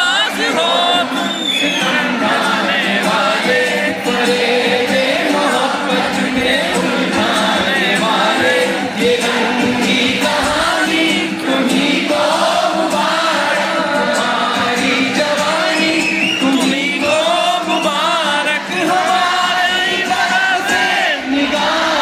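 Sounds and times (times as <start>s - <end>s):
crowd singing along: 0.0s - 22.0s
live concert music: 0.0s - 22.0s.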